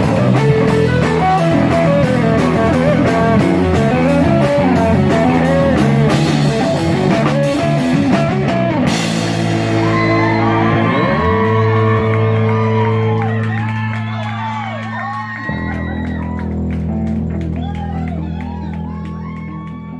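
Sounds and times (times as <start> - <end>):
drum kit: 0.0 - 19.4
ringing guitar and bass notes: 0.0 - 19.9
rock band playing: 0.0 - 19.9.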